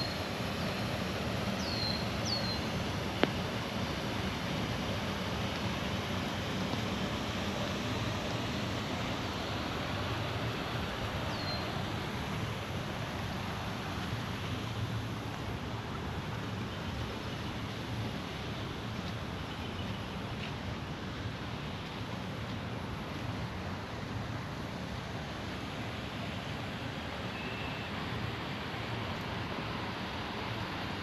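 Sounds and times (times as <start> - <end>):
water rushing over a dam: 0.0 - 31.0.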